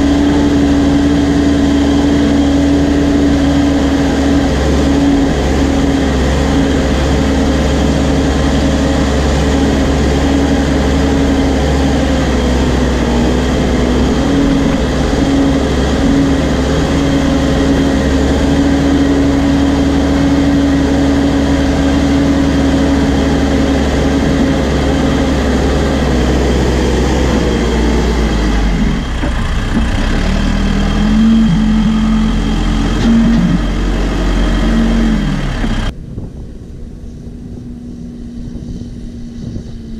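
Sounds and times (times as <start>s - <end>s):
backhoe diesel engine running: 0.0s - 36.0s.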